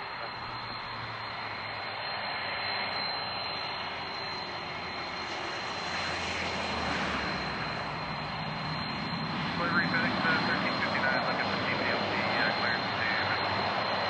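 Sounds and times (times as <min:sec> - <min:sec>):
airliner engines rushing: 0:00.0 - 0:14.0.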